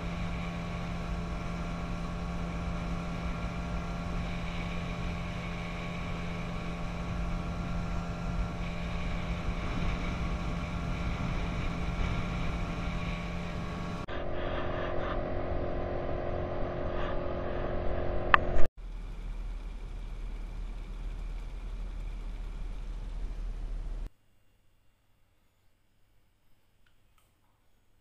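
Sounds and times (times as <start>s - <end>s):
outboard motor drone: 0.0s - 24.1s.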